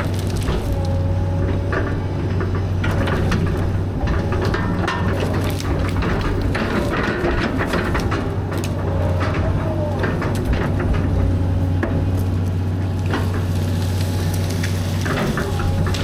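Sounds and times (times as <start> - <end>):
excavator diesel engine droning: 0.0 - 16.0
wood cracking and knocking: 0.0 - 16.0.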